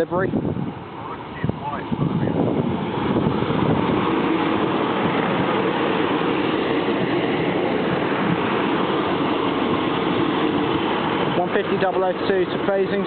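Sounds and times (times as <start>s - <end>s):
diesel train passing: 0.0s - 13.0s
train wheels on rails: 0.7s - 13.0s.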